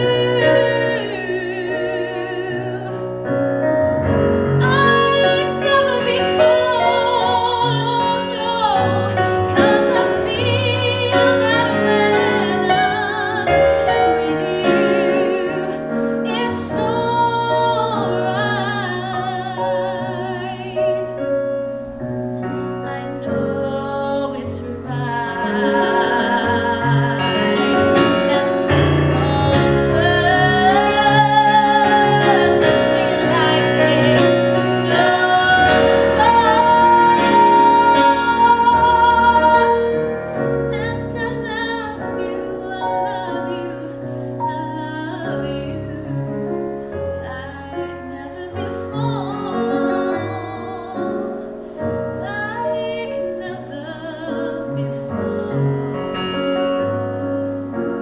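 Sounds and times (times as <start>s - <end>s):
woman singing a ballad: 0.0s - 21.4s, 22.4s - 57.8s
piano accompaniment: 0.0s - 58.0s.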